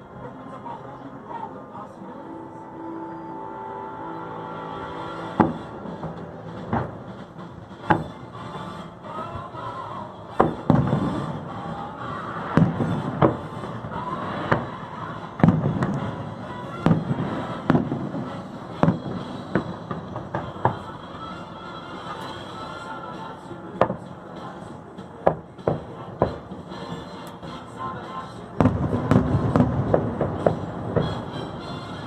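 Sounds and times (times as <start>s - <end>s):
show music: 0.0s - 32.0s
fireworks bursting with sharp bangs: 4.9s - 22.3s, 23.1s - 32.0s.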